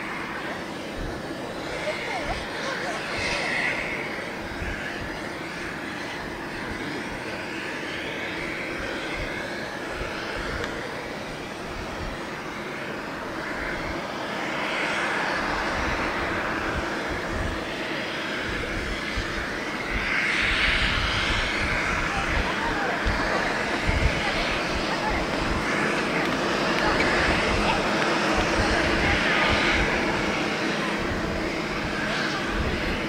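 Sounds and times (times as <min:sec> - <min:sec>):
jet engine roar and whine: 0:00.0 - 0:33.0.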